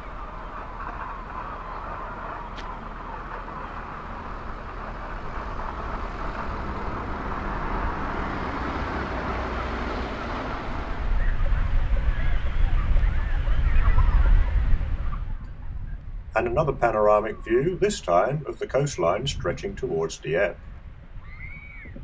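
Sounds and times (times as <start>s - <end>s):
heavy low rumble: 0.0s - 22.0s
outdoor rushing noise: 0.0s - 22.0s.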